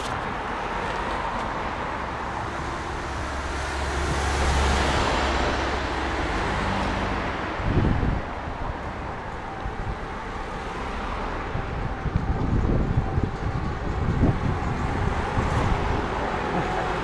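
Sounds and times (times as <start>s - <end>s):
road traffic: 0.0s - 17.0s
vehicle engine rumble: 0.0s - 17.0s.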